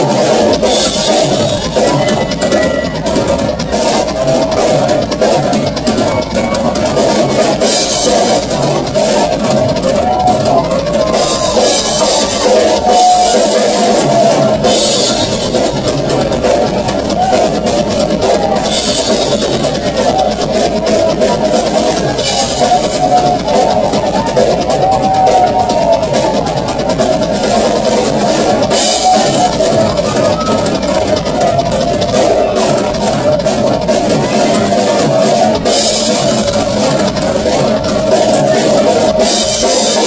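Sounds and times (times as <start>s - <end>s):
drum solo: 0.0s - 40.0s.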